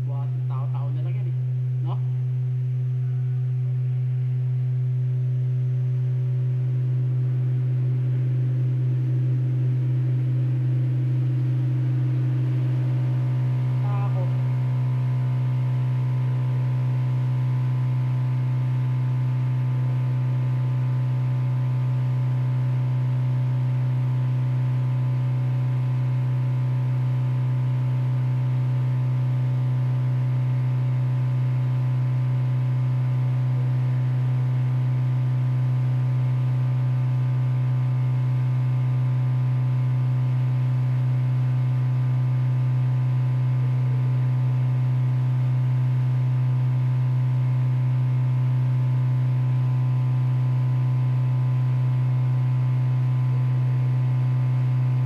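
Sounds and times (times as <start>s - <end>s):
deep electrical hum: 0.0s - 55.0s.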